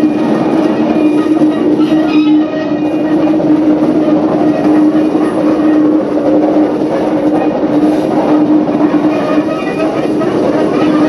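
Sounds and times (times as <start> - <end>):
electric train hum: 0.0 - 11.0
train wheels rumbling on rails: 0.0 - 11.0.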